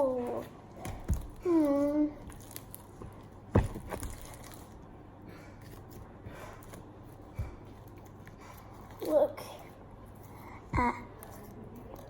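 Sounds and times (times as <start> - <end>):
slime squishing in a bowl: 0.0 - 10.4.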